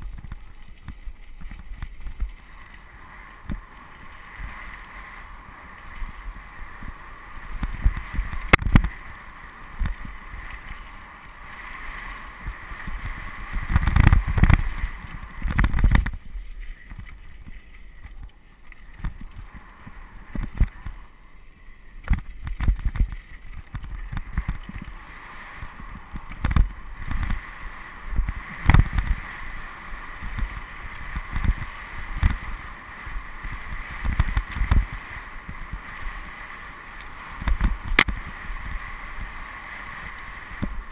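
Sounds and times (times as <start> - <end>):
bike tyres rolling over dirt: 0.0 - 40.9.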